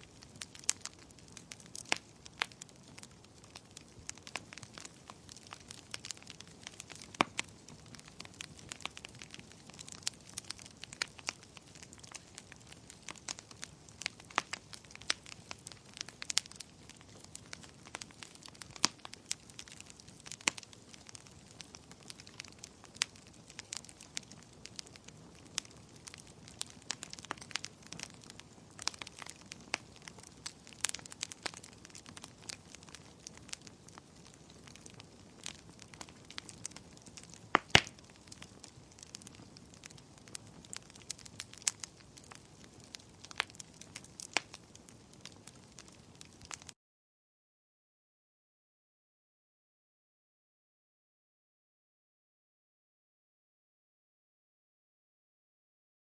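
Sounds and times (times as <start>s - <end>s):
wood fire crackling: 0.0s - 46.8s.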